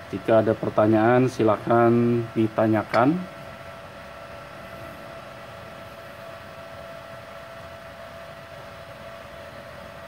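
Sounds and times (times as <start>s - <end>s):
welder cooling fan humming: 0.0s - 10.0s.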